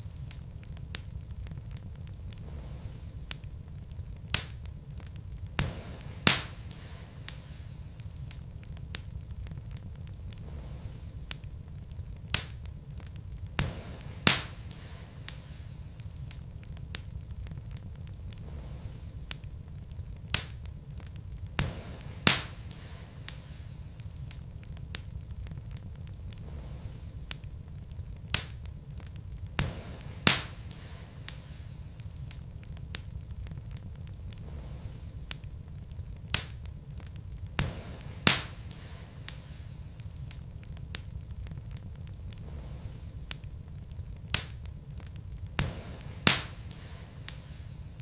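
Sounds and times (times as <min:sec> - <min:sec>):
logs burning in a fireplace: 0:00.0 - 0:48.0.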